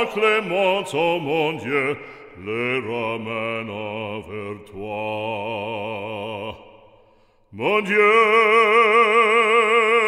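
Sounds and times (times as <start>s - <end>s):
man singing operatic hymn: 0.0s - 6.8s, 7.5s - 10.0s.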